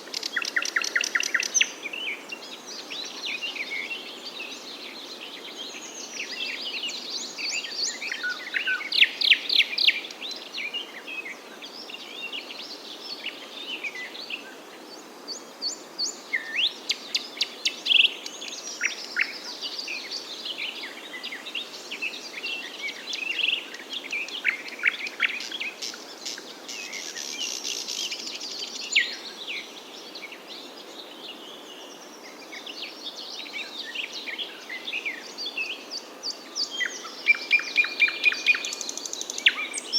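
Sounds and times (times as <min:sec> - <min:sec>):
songbirds chirping and singing: 0:00.0 - 0:39.9
steady background hiss: 0:00.0 - 0:39.9.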